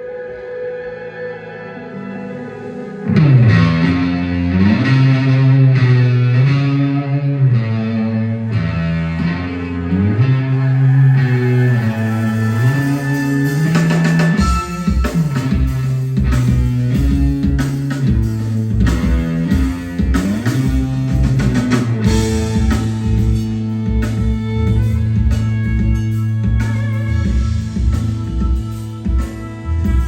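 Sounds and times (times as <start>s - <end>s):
effects-laden electric guitar: 0.0s - 30.0s
live rock band playing: 0.0s - 30.0s
bass line: 1.6s - 30.0s.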